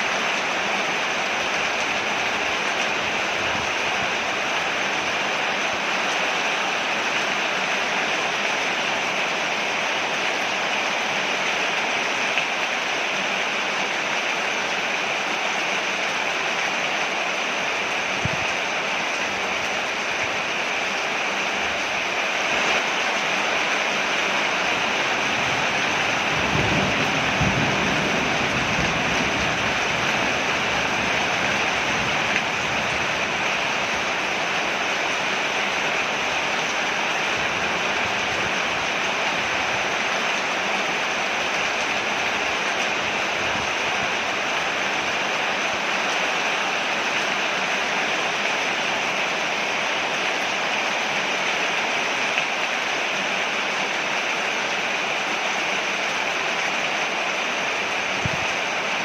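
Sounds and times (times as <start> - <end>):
rain on a porch: 0.0 - 59.0.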